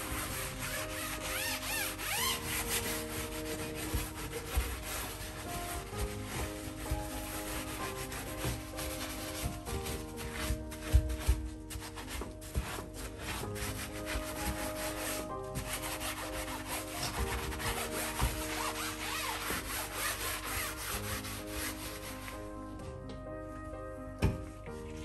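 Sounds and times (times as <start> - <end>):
sponge scrubbing metal hob: 0.0 - 22.5.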